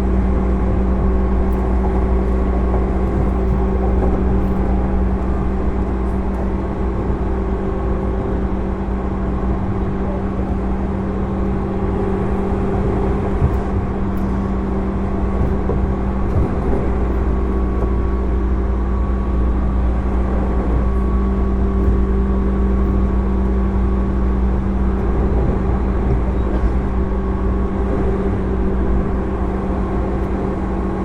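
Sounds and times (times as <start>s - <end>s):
electric train motor hum: 0.0s - 31.0s
train wheels rumbling: 0.0s - 31.0s.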